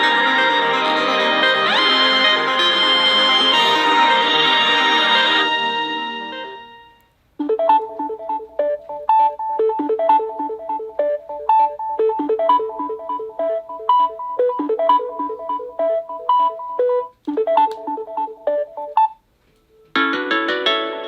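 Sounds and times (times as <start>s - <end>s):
phone ringtone melody: 0.0s - 19.2s.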